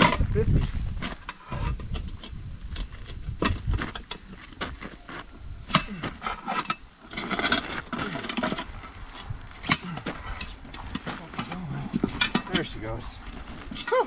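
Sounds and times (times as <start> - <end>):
metal scraping: 0.0 - 14.0.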